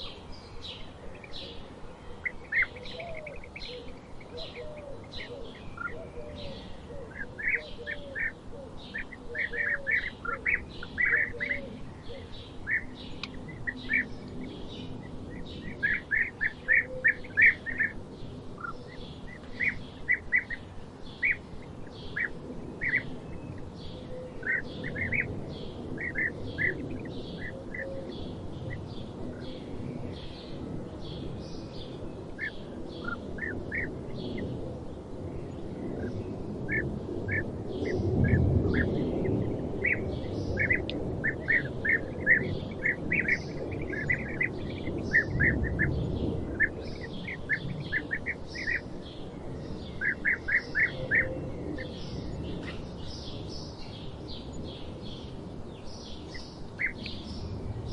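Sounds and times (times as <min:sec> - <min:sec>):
low forest background noise: 0:00.0 - 0:57.9
small birds chirping: 0:00.0 - 0:57.9.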